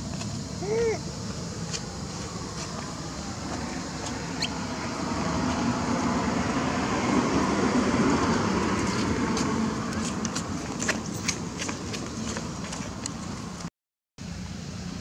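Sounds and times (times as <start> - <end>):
passing motor vehicle rumbling: 0.0 - 13.7.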